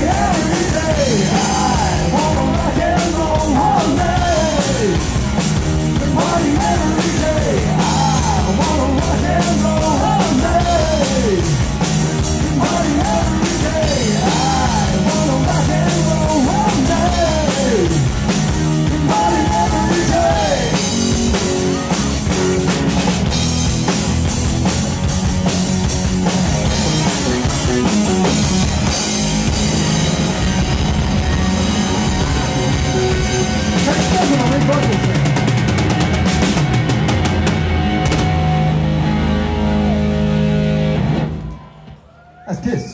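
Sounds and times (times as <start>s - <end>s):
drum kit beat: 0.0s - 38.9s
electric guitar bending notes: 0.0s - 41.9s.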